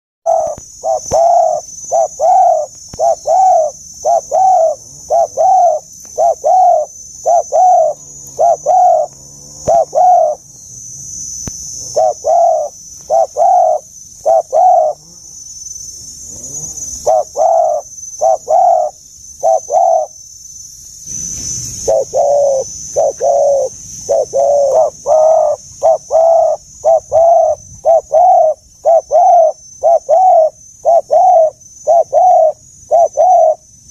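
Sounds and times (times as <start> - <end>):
dove cooing: 0.2 - 10.5, 11.8 - 15.2, 16.3 - 20.2, 21.2 - 33.7
steady high hiss: 0.3 - 33.9.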